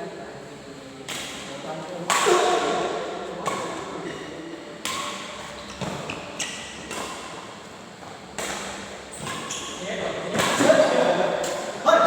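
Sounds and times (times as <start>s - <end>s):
racket strikes in echoing hall: 1.0s - 12.0s.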